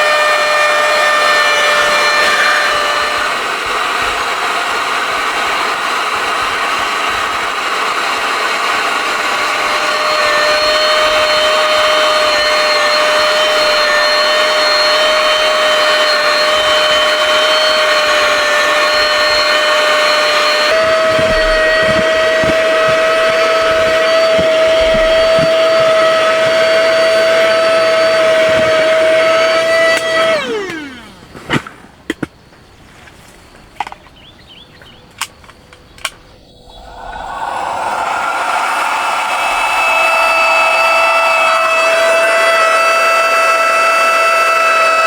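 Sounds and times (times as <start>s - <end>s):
small electric motor whining: 0.0s - 32.0s, 35.3s - 45.0s.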